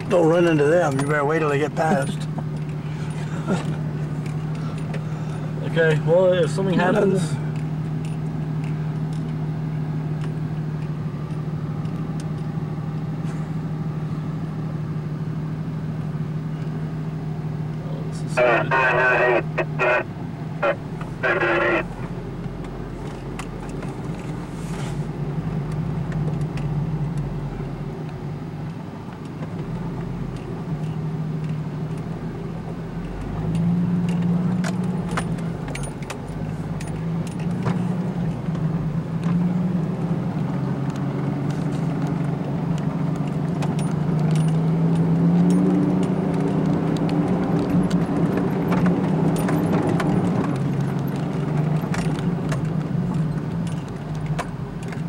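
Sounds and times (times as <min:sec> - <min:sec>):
vehicle engine from inside cab: 0:00.0 - 0:55.0.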